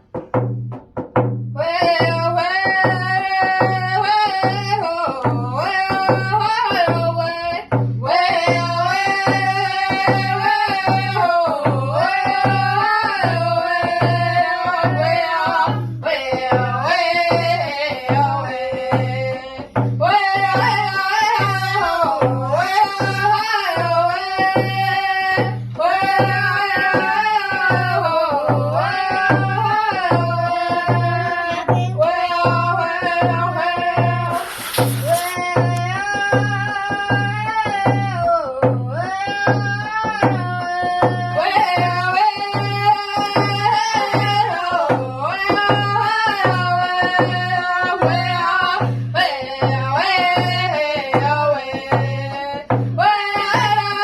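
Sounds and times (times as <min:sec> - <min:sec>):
steady drumbeat: 0:00.0 - 0:54.0
high singing voice: 0:01.6 - 0:45.5.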